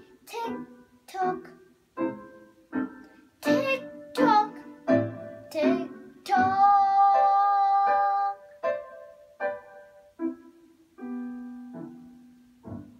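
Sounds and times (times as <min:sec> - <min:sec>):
instrumental children's song: 0:00.0 - 0:12.9.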